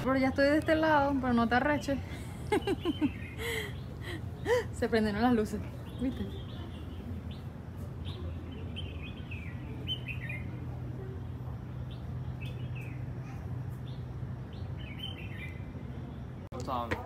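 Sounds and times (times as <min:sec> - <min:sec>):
small birds chirping: 0:00.0 - 0:16.8
low background hum: 0:00.0 - 0:17.0.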